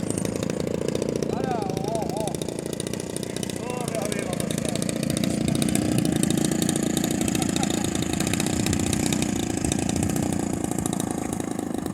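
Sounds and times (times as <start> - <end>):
small two-stroke model engine running: 0.0 - 11.9.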